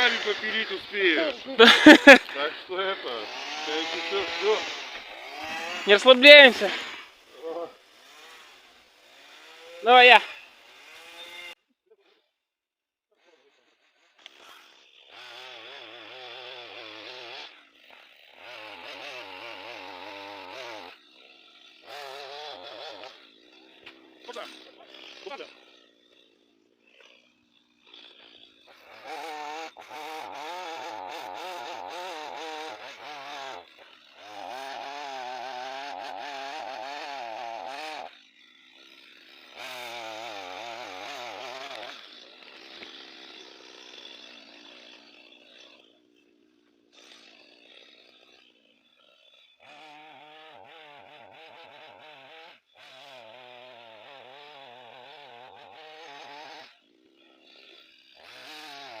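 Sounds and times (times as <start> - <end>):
chainsaw cutting wood: 0.0 - 12.5, 13.2 - 59.0.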